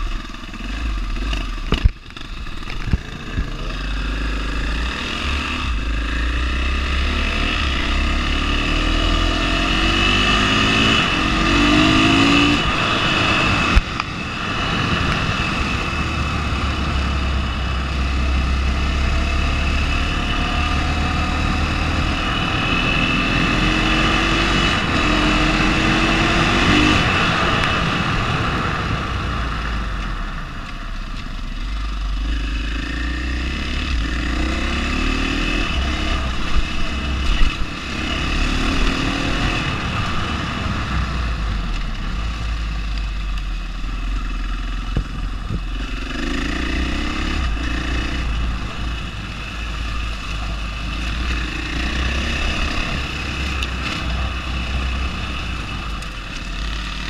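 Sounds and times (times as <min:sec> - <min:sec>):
dirt bike engine accelerating: 0:00.0 - 0:57.0.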